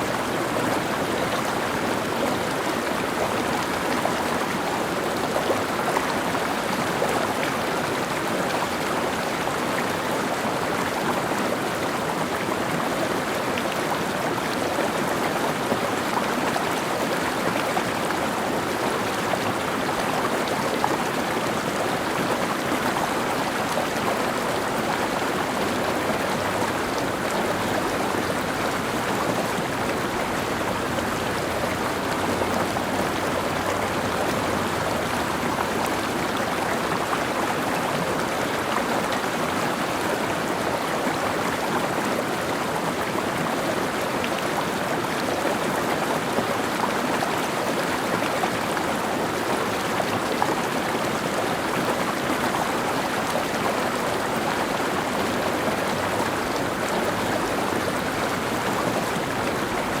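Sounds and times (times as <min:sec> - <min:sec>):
stream flowing over rocks: 0:00.0 - 1:00.0.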